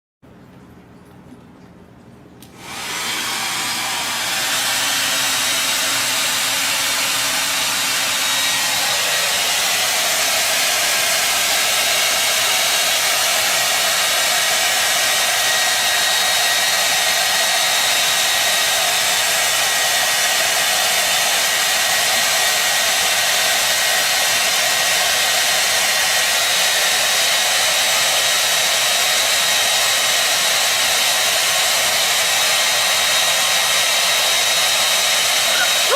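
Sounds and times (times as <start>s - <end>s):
hair dryer blowing air: 2.4s - 35.9s.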